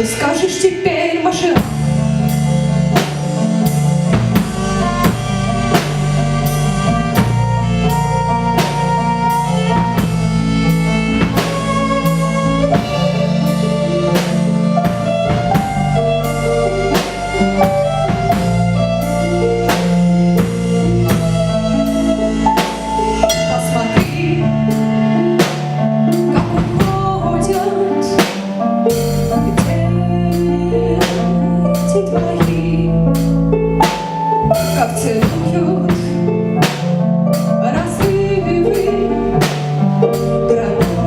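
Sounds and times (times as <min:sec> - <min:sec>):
sustained bass notes: 0:00.0 - 0:41.0
held melody line: 0:00.7 - 0:41.0
drum kit beat: 0:01.3 - 0:41.0.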